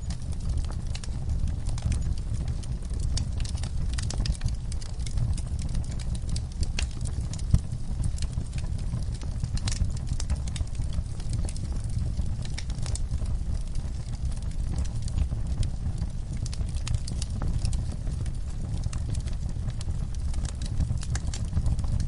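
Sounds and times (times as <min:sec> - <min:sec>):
burning logs crackling and popping: 0:00.0 - 0:22.0
low rumble of flame: 0:00.0 - 0:22.0.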